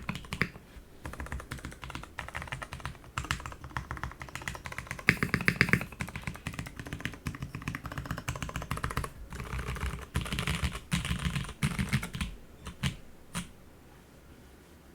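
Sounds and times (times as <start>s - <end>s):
typing on mechanical keyboard: 0.0s - 13.5s.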